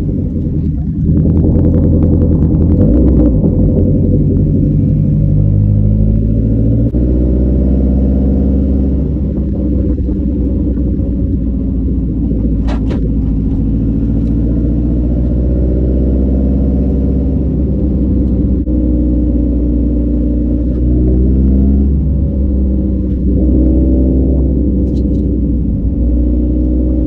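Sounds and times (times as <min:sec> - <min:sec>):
car engine driving: 0:00.0 - 0:27.0.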